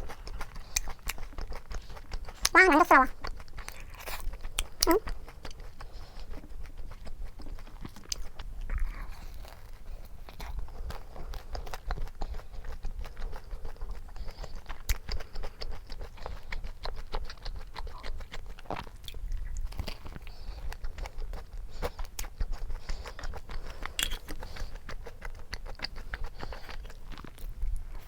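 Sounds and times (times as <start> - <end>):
biting and chewing food: 0.0 - 28.0.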